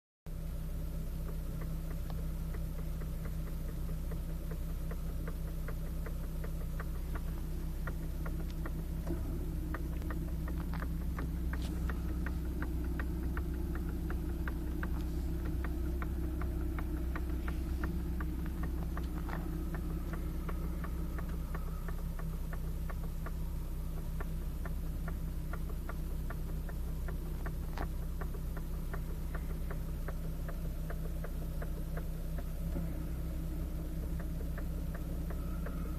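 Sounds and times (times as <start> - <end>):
car engine idling: 0.3 - 35.9
steering knocking clicks: 0.3 - 35.9.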